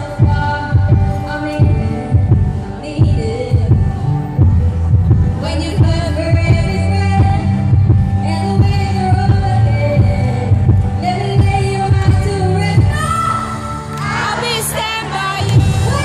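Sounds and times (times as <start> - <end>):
woman singing into a microphone: 0.0 - 16.0
thumping bass beat: 0.2 - 13.2, 15.4 - 16.0.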